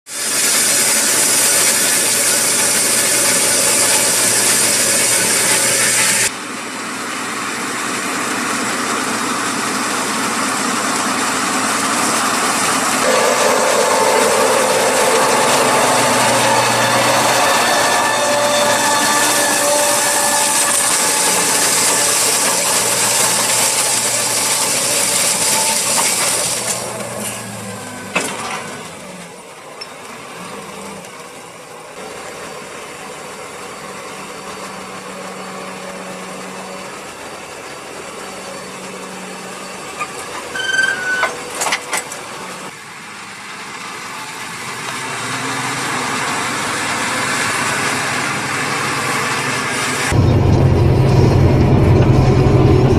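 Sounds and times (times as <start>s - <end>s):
tractor diesel engine under load: 0.1s - 52.9s.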